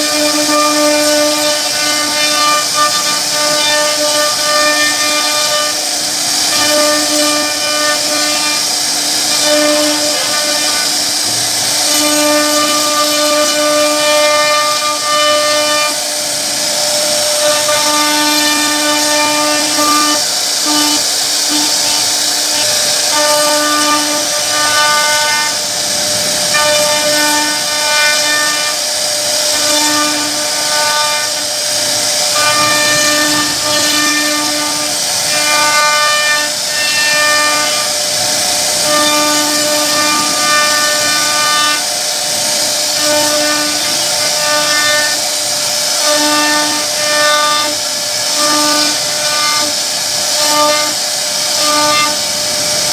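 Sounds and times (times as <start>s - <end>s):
hiss of wood cutting: 0.0s - 52.9s
router spindle whining: 0.0s - 52.9s.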